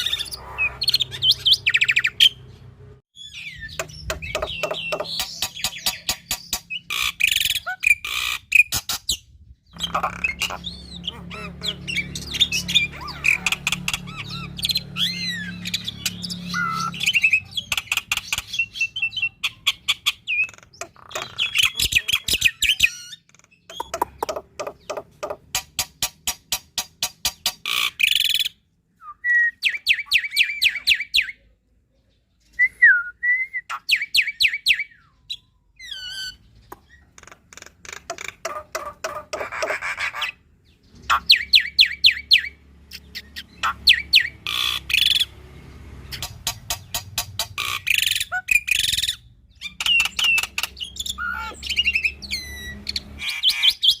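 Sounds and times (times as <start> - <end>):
bird singing varied song: 0.0 - 54.0.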